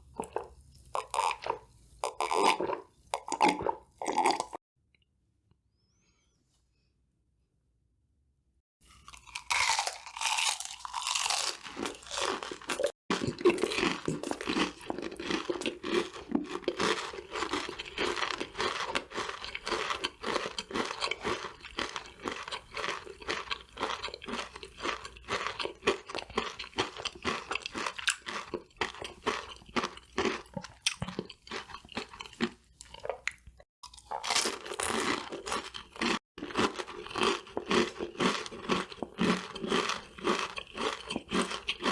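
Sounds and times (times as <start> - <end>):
chewing crispy food: 0.0 - 4.6, 8.9 - 41.9.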